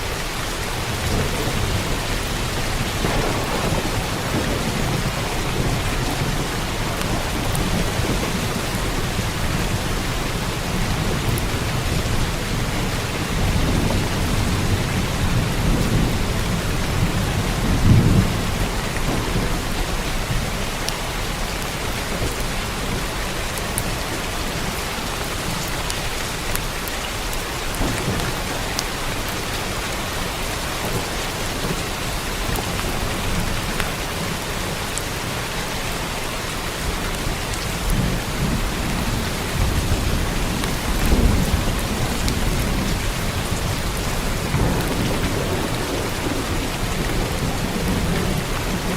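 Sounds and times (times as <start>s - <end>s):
heavy rain on a roof: 0.0s - 48.9s
thunder rumbling: 0.8s - 22.4s, 23.9s - 34.8s, 36.6s - 48.9s.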